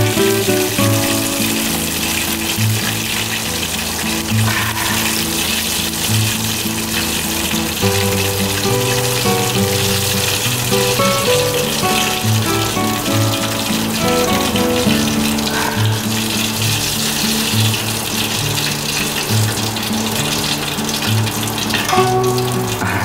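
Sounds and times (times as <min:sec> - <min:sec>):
background music with held notes: 0:00.0 - 0:23.0
chicken sizzling in oil: 0:00.0 - 0:23.0.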